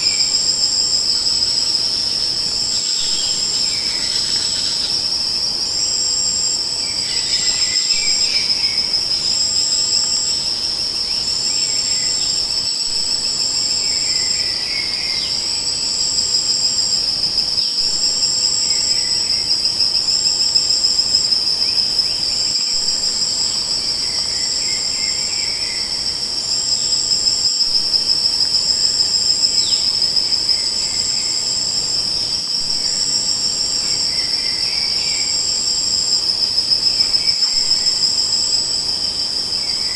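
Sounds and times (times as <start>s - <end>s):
insects chirring trill: 0.0s - 39.9s
soft insect chirps: 0.0s - 39.9s.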